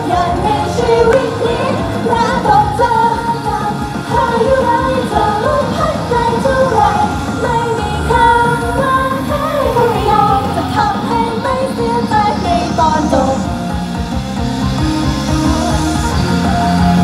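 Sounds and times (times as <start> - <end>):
women singing pop song: 0.0 - 13.8
pop backing track: 0.0 - 17.0.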